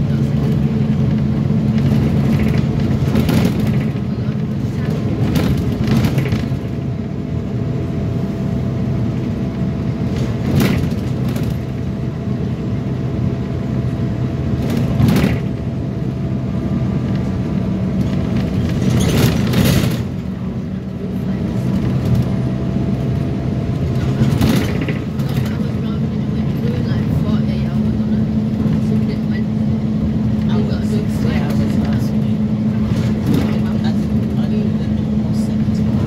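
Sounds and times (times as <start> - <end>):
bus engine drone with whine: 0.0 - 36.0.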